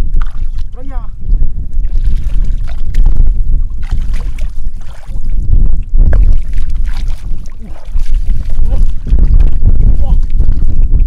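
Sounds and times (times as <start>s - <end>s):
muddy water sloshing and splashing: 0.0s - 1.0s, 1.7s - 11.0s
wind buffeting microphone: 0.0s - 11.0s.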